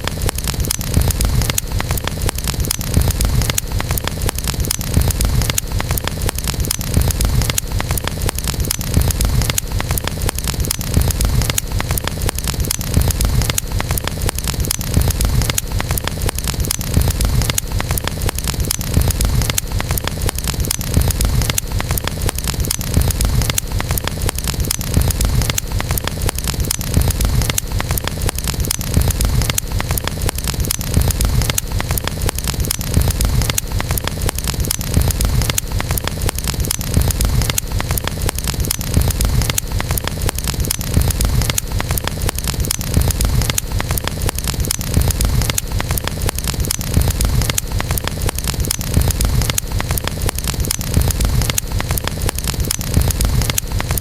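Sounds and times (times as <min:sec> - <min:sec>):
campfire crackling and popping: 0:00.0 - 0:54.0
fire low rumble: 0:00.1 - 0:54.0.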